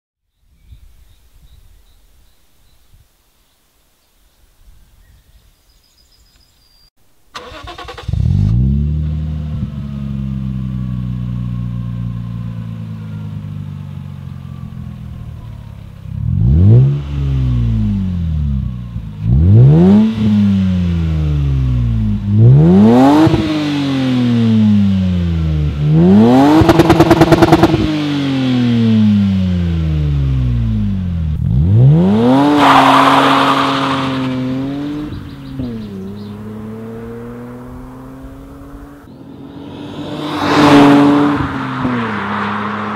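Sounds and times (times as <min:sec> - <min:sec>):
car engine idling and revving: 0:07.3 - 0:42.9.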